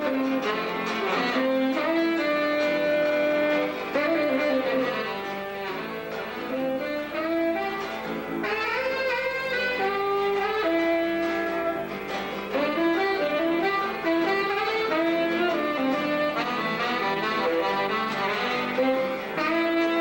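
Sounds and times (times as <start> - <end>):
guitar: 0.0 - 20.0
saxophone melody: 0.0 - 20.0.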